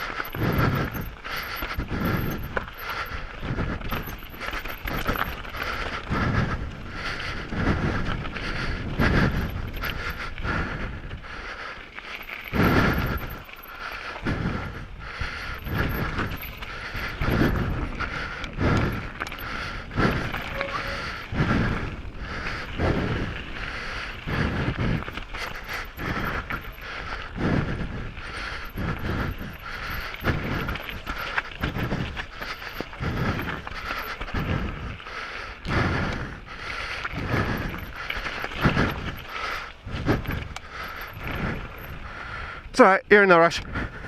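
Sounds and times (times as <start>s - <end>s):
heavy breathing: 0.0s - 43.0s, 43.6s - 44.0s
mountain bike rattling on rough trail: 0.0s - 44.0s.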